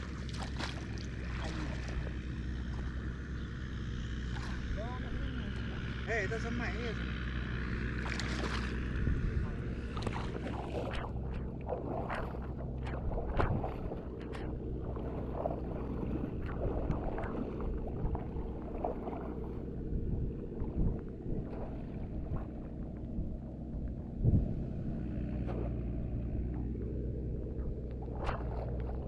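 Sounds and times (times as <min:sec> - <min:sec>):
muddy water splashing: 0:00.0 - 0:29.0
steady low rumble: 0:00.0 - 0:29.0.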